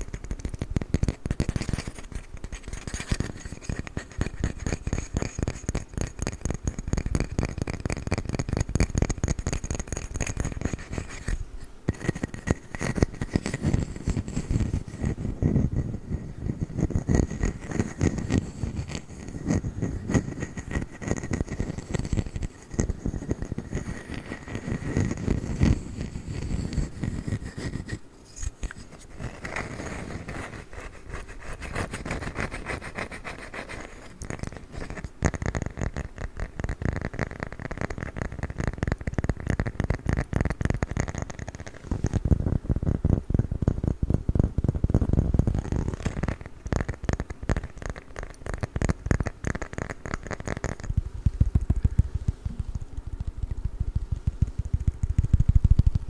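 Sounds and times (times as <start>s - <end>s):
tapping and scratching on wood: 0.0s - 56.0s.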